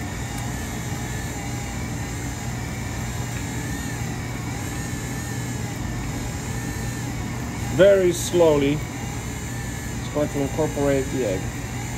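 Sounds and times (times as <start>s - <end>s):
stand mixer motor humming: 0.0s - 11.9s.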